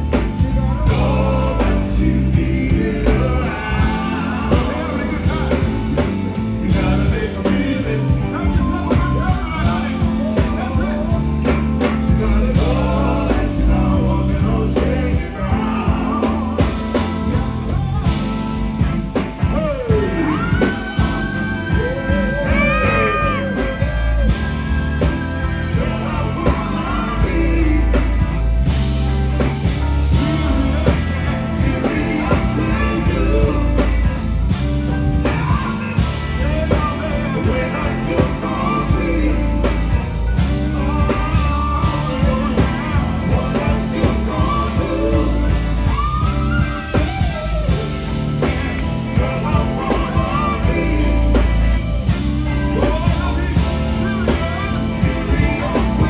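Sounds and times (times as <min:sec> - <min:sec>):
live soul band with group singing: 0:00.0 - 0:56.0.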